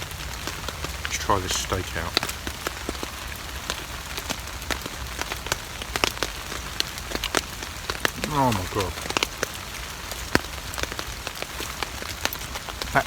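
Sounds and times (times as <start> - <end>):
rain pattering on a tarp: 0.0 - 13.0.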